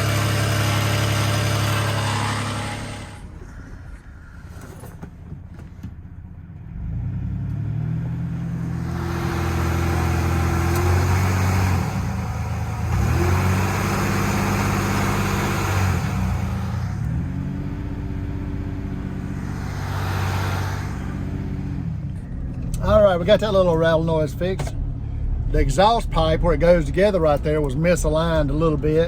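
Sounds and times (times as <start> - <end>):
car engine accelerating: 0.0 - 4.4, 6.0 - 29.0.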